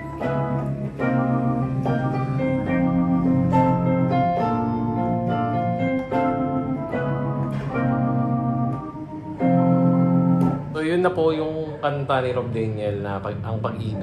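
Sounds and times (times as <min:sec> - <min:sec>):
synthesizer keyboard chords: 0:00.0 - 0:14.0.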